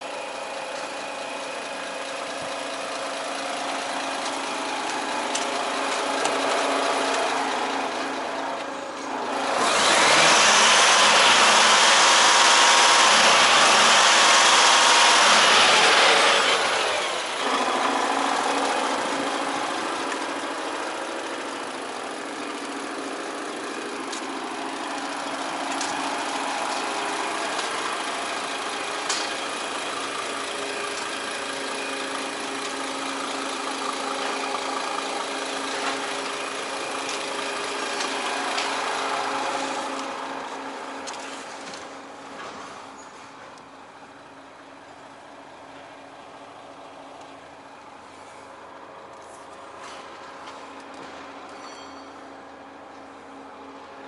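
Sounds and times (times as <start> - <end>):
diesel truck engine idling: 0.0 - 51.3.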